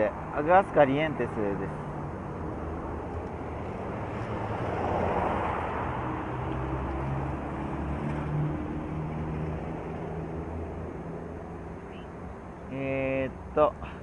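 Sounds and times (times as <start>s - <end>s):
street traffic: 0.0s - 14.0s
vehicle passing: 0.3s - 12.6s.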